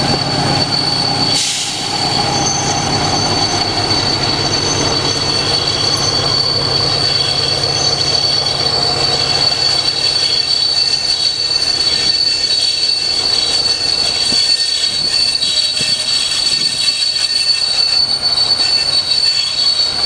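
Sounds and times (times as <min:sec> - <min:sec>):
wheels rumbling on rails: 0:00.0 - 0:20.0
wheels squealing: 0:00.0 - 0:20.0.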